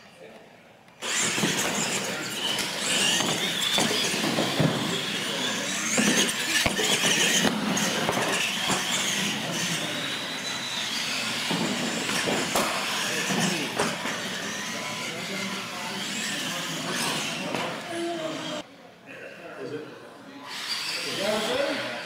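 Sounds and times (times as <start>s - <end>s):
toy truck motors whining: 1.0s - 18.6s, 20.4s - 22.0s.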